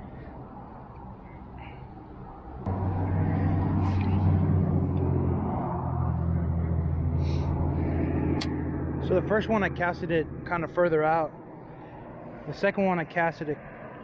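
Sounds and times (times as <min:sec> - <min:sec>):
vehicle engine running: 0:00.0 - 0:12.6.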